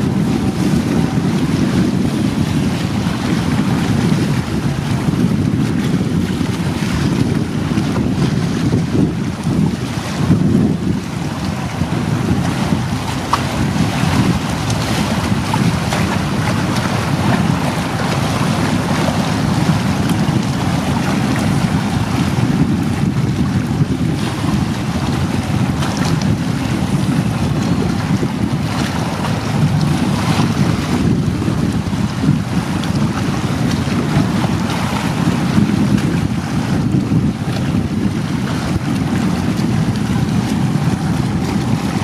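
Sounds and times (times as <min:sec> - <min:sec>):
sea water washing against rocks: 0:00.0 - 0:42.0
wind buffeting microphone: 0:00.0 - 0:42.0.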